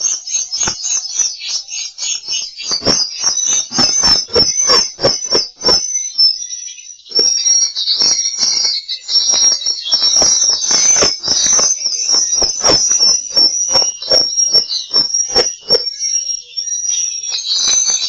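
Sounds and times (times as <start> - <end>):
high twittering bird chirps: 0.0 - 18.0.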